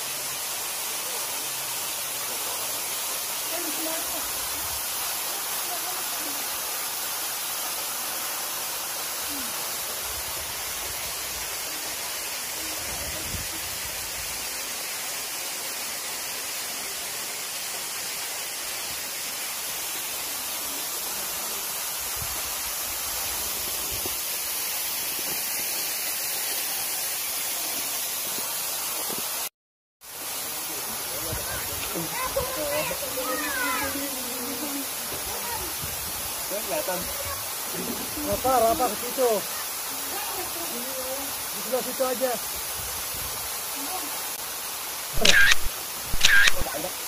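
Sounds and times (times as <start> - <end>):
waterfall rushing: 0.0 - 29.5, 30.1 - 47.0.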